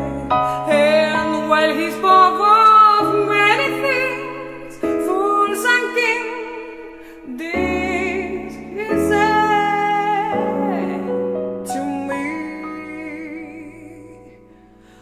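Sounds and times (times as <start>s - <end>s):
person singing with vibrato: 0.0s - 15.0s
slow ballad music: 0.0s - 15.0s.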